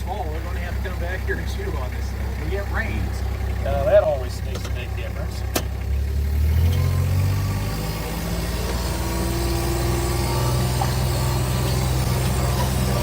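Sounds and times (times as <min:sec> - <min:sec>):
vehicle engine revving up: 0:00.5 - 0:13.0.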